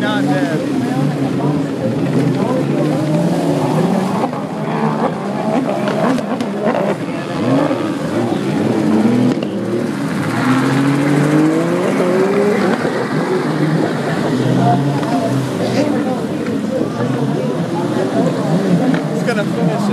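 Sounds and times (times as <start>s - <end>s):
jet ski engines racing: 0.0s - 19.9s.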